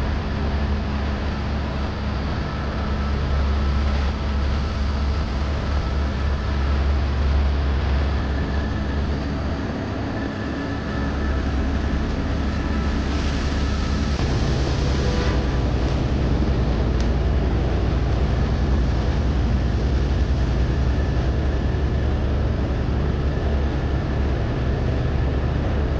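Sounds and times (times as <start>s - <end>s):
rushing noise: 0.0s - 22.0s
helicopter rotor and engine drone: 0.0s - 25.9s.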